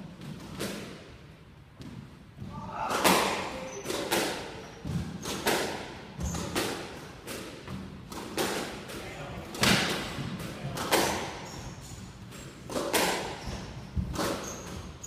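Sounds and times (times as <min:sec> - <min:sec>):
squash ball hitting rackets and walls: 0:00.0 - 0:15.0.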